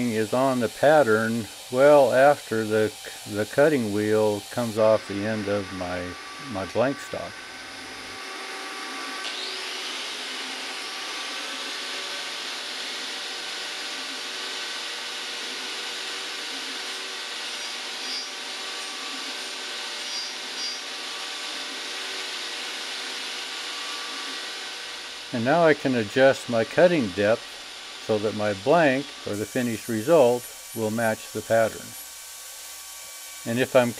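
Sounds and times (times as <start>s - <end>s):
angle grinder motor whine: 0.0s - 33.9s
grinder shaving wood: 0.0s - 33.9s.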